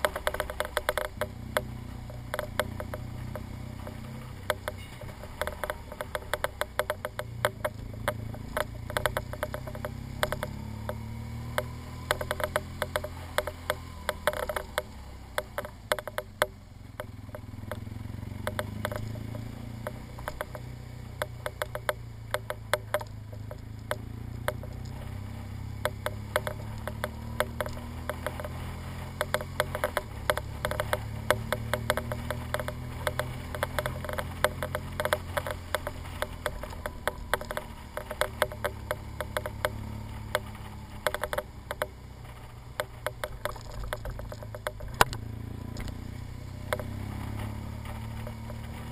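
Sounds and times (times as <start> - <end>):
dense clicking and rattling: 0.0 - 48.9
motorcycle engine at low revs: 0.0 - 48.9.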